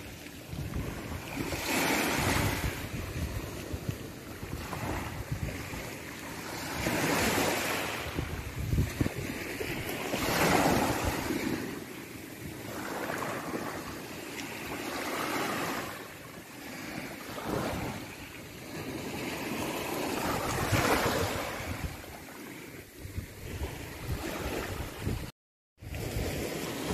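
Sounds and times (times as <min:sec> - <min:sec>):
wind buffeting microphone: 0:00.0 - 0:14.2, 0:17.2 - 0:26.9
waves washing up pebbly shore: 0:00.0 - 0:26.9.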